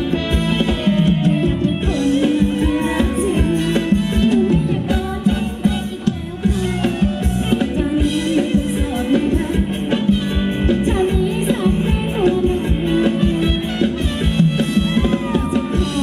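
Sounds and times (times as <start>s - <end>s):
person singing: 0.0s - 14.0s, 15.0s - 16.0s
live band playing dance song: 0.0s - 16.0s
steady drum beat: 0.0s - 16.0s.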